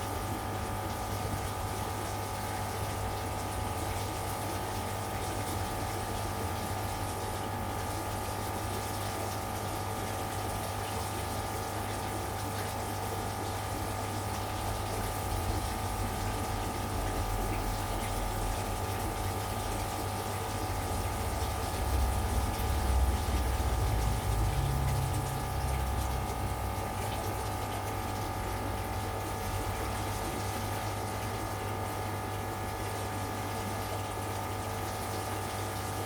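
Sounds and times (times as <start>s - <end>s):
aquarium pump humming: 0.0s - 36.0s
water noise: 0.0s - 36.0s.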